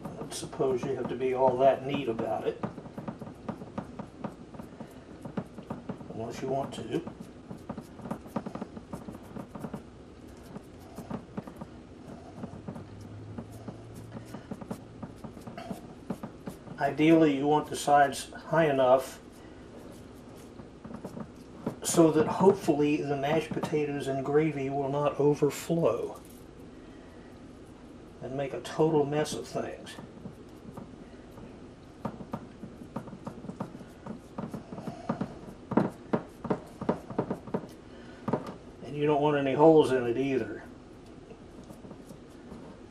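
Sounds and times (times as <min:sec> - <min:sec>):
hands patting raw meat: 0:00.0 - 0:24.6, 0:28.6 - 0:38.6, 0:41.0 - 0:42.9
low steady hum: 0:00.0 - 0:42.9.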